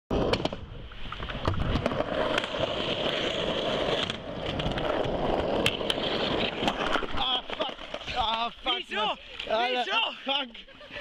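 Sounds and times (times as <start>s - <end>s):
skateboard wheels rolling on pavement: 0.1s - 10.9s
skateboard clicks and knocks: 0.2s - 9.7s.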